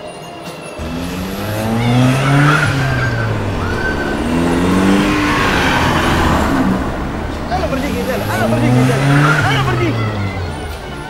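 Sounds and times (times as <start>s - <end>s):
go-kart engines revving: 0.8s - 11.0s.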